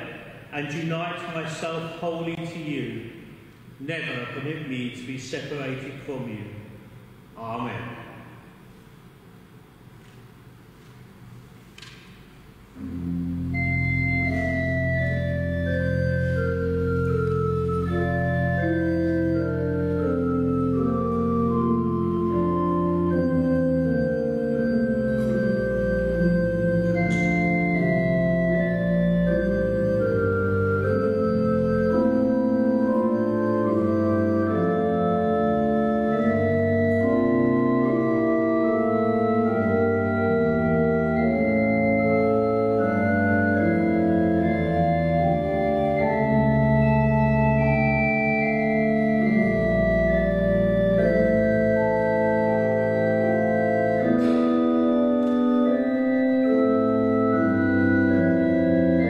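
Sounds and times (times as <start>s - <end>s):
church organ playing: 0.0s - 8.8s, 9.4s - 59.0s.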